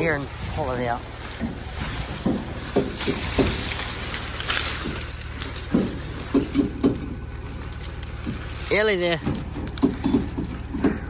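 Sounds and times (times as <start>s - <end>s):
low engine hum: 0.0s - 11.0s
maize stalks rustling and crackling: 0.0s - 11.0s.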